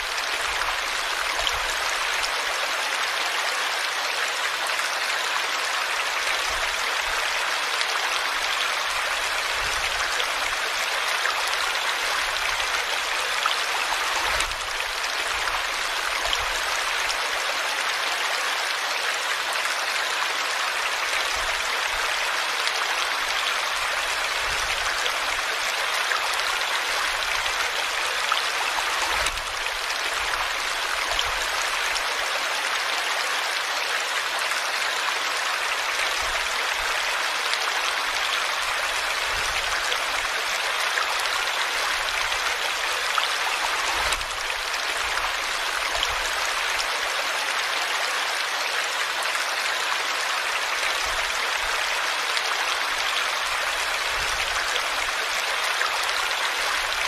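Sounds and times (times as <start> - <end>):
small waterfall splashing into pool: 0.0 - 57.0.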